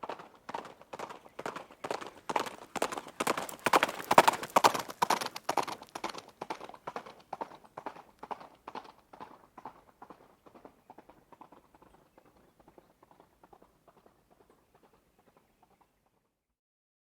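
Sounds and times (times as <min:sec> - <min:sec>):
horse hoofbeats: 0:00.0 - 0:16.4.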